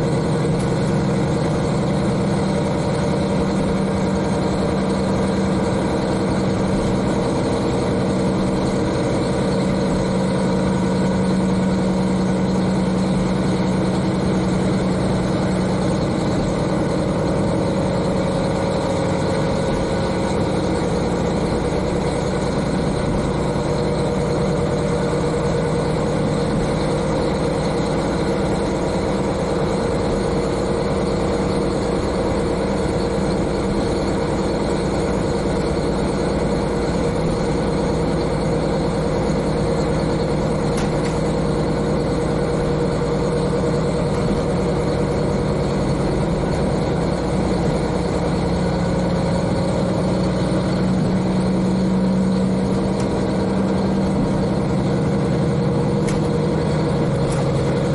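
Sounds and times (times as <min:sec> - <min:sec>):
diesel engine droning: 0:00.0 - 0:57.9.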